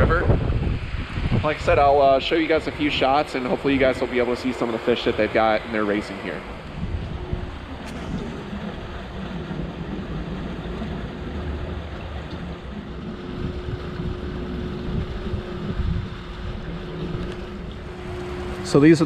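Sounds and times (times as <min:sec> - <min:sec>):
mid-pitched hum: 0:00.0 - 0:19.0
wind buffeting microphone: 0:00.0 - 0:19.0.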